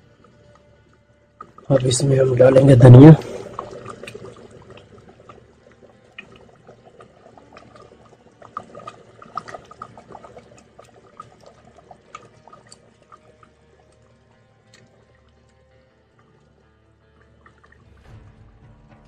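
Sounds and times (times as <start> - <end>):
curry bubbling in a pot: 0.0 - 18.1.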